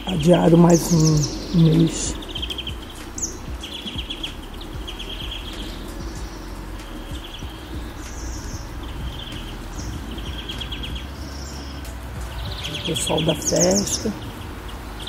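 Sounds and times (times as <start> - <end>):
small birds trilling: 0.0 - 15.0
steady low rumble: 0.0 - 15.0.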